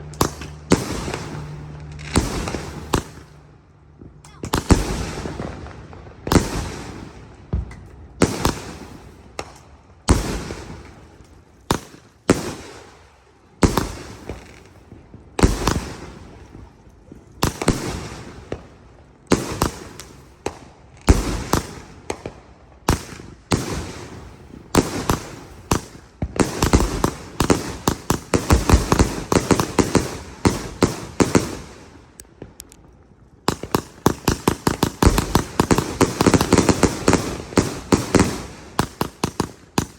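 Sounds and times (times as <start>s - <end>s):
firework bangs with crackle: 0.0s - 39.9s.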